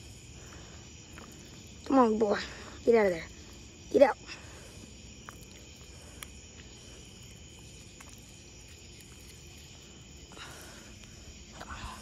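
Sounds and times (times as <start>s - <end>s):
faint insect chirr: 0.0s - 12.0s.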